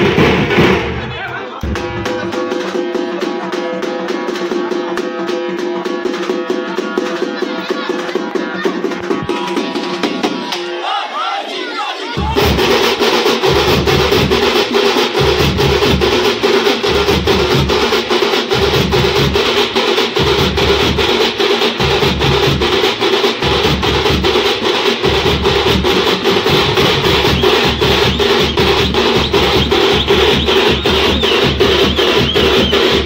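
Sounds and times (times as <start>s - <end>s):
drum band playing: 0.0s - 11.2s, 12.0s - 33.0s.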